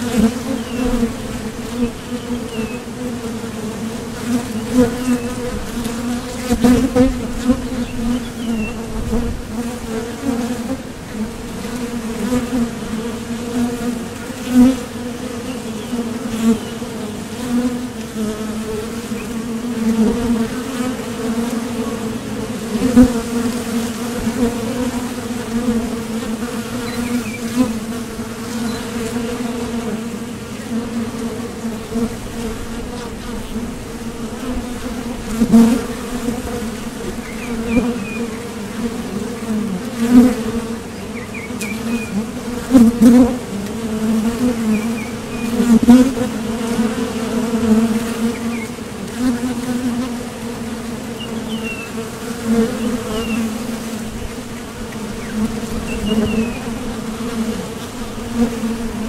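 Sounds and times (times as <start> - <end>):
honeybees buzzing: 0.0 - 59.0
single bee buzzing close: 0.0 - 59.0.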